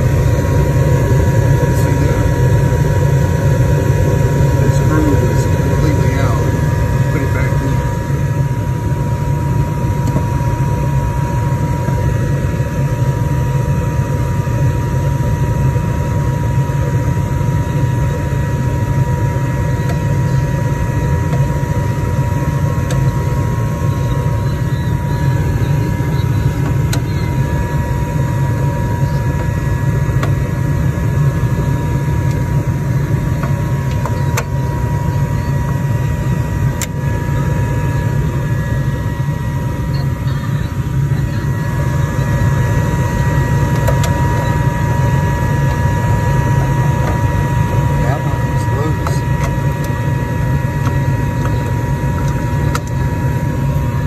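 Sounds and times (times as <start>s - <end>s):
furnace fan hum and whine: 0.0s - 54.0s.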